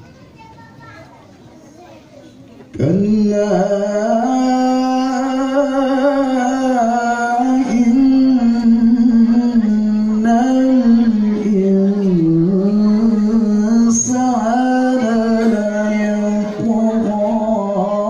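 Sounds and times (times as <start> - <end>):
person chanting through microphone: 2.7 - 18.0.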